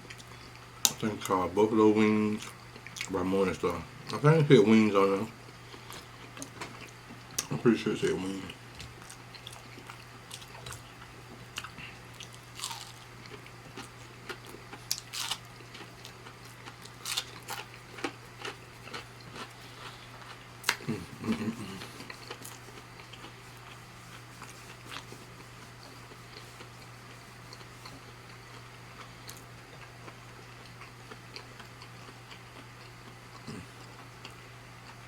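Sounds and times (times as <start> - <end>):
low electrical hum: 0.0 - 35.0
close chewing with crunches: 2.4 - 4.2, 8.3 - 35.0.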